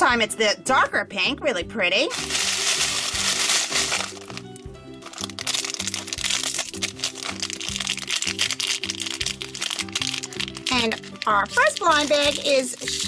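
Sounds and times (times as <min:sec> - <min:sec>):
background music: 0:00.0 - 0:13.0
plastic wrapper crinkling: 0:02.1 - 0:13.0.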